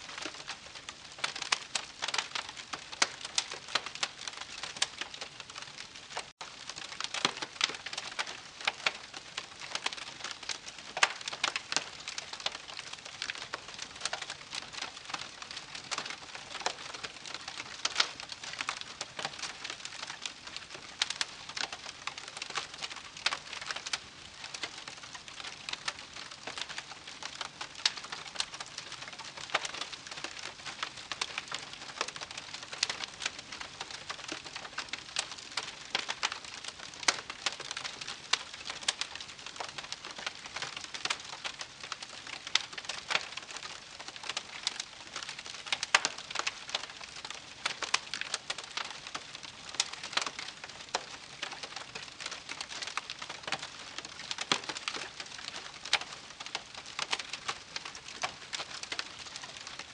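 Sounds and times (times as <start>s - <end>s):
campfire crackling: 0.1s - 59.9s.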